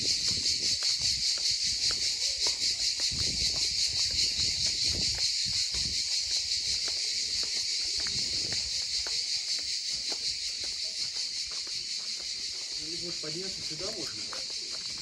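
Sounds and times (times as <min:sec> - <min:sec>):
cicadas singing: 0:00.0 - 0:15.0
footsteps on pavement: 0:00.0 - 0:15.0.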